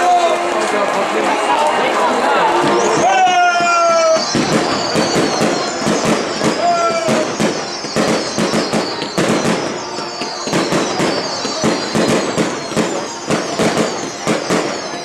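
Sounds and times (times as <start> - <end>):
firecrackers banging: 0.0 - 15.0
whistles falling in pitch: 2.6 - 15.0.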